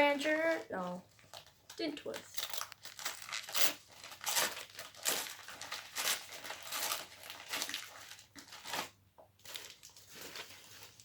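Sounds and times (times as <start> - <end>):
newspaper crumpling and crinkling: 0.0 - 11.0.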